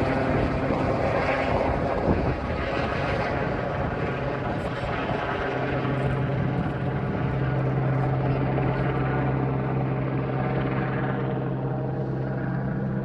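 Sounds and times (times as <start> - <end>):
helicopter running: 0.0 - 13.0.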